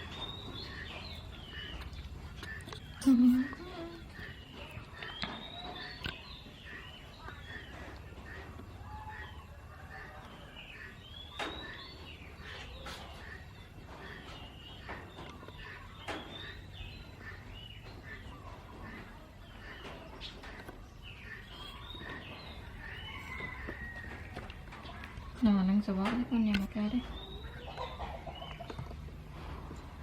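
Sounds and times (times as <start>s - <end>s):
chirping calls: 0.0s - 30.0s
outdoor background noise: 0.0s - 30.0s.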